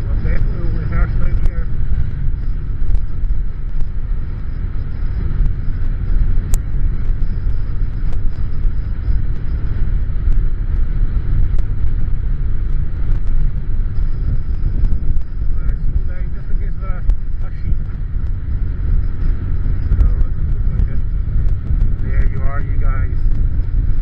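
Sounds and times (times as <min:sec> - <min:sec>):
motorcycle engine rumble: 0:00.0 - 0:24.0
wind buffeting microphone: 0:00.0 - 0:24.0.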